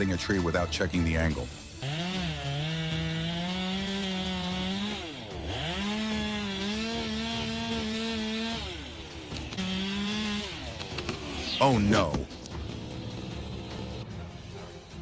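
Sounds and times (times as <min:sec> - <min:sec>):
chainsaw revving: 0:01.6 - 0:14.0.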